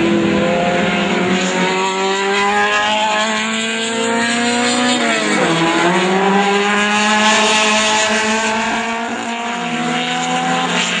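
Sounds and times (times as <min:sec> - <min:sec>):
racing car engines passing: 0:00.0 - 0:11.0.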